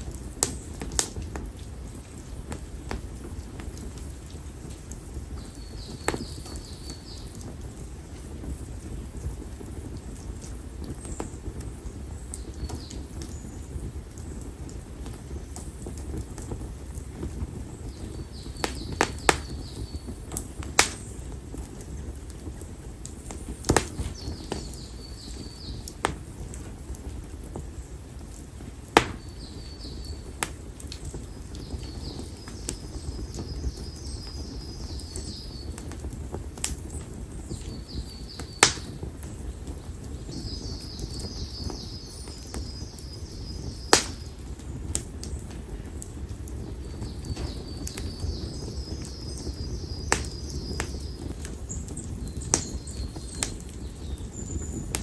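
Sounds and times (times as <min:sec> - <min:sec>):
campfire burning: 0:00.0 - 0:55.0
fire crackling pops: 0:00.0 - 0:55.0.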